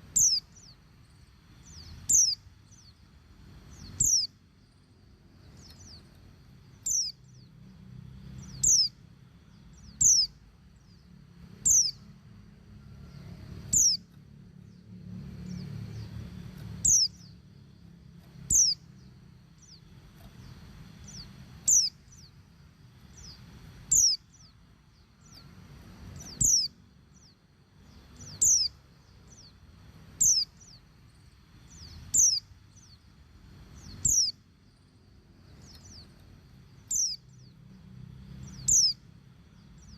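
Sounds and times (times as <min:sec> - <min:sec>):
bird high downward chirps: 0:00.0 - 0:04.5, 0:05.4 - 0:37.7, 0:38.4 - 0:39.9.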